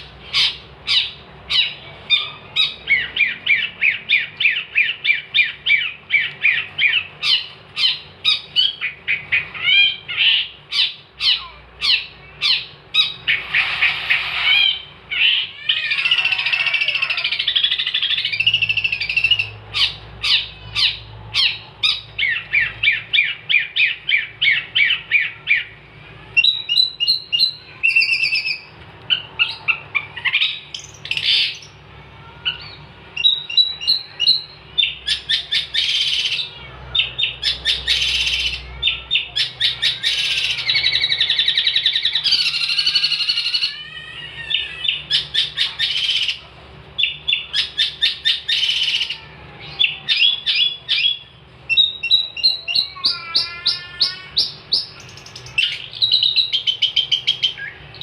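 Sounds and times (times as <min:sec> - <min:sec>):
shrike singing: 0:00.0 - 0:46.4.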